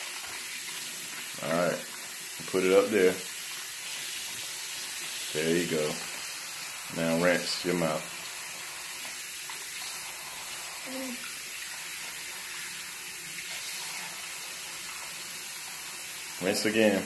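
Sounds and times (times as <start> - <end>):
faucet running into sink: 0.0 - 17.0.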